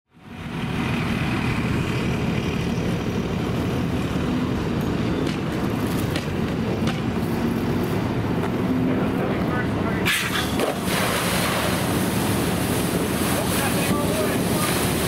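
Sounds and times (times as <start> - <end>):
diesel engine rumbling: 0.1 - 15.0.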